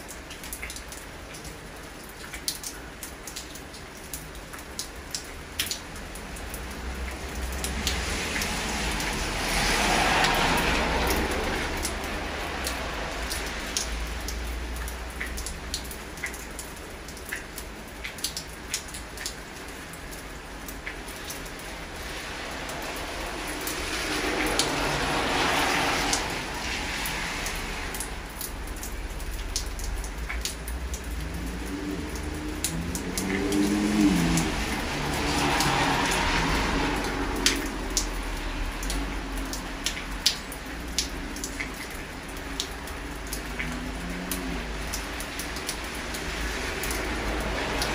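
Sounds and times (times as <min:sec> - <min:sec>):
sharp drips: 0:00.0 - 0:47.9
steady rain: 0:00.0 - 0:47.9.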